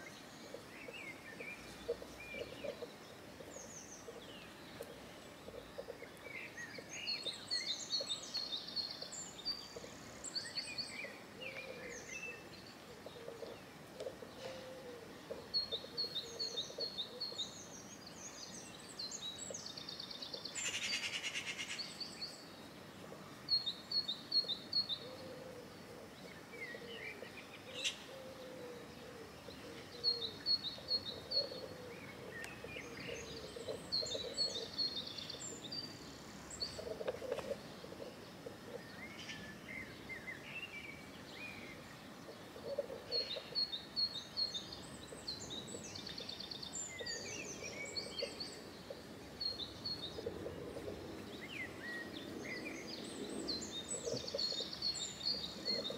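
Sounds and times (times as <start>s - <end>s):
small birds chirping: 0.0s - 55.9s
steady background hiss: 0.0s - 55.9s.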